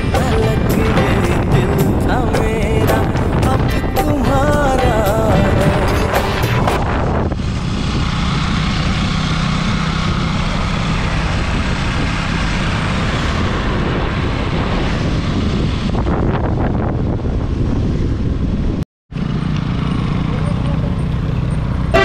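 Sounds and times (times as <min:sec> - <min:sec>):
wind rush on microphone: 0:00.0 - 0:19.4
motorcycle engine humming: 0:00.0 - 0:22.0.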